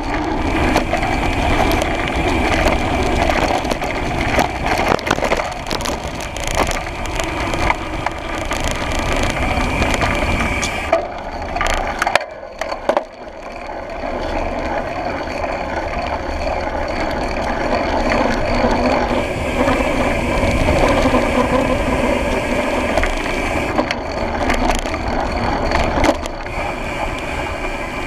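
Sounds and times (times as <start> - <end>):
bike tyres rolling on dirt: 0.0 - 28.0
freewheel ratcheting: 0.0 - 28.0.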